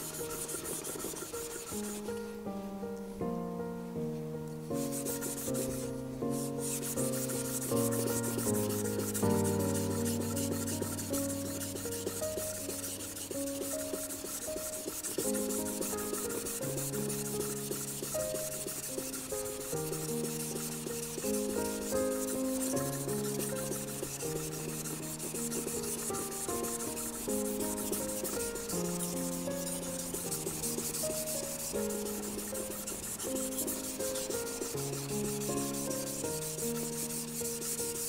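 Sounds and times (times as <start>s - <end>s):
knife scraping on whetstone: 0.0s - 2.1s, 4.8s - 5.8s, 6.6s - 38.0s
soft background music: 0.0s - 38.0s.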